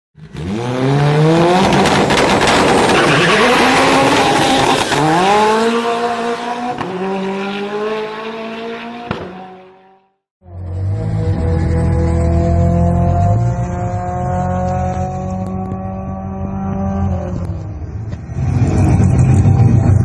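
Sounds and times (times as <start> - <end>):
race car accelerating: 0.2 - 20.0.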